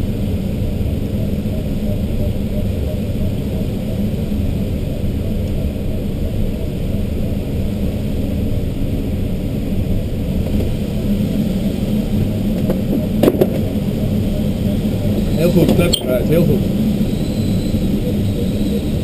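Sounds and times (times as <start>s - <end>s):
air rushing around glider cockpit: 0.0s - 19.0s.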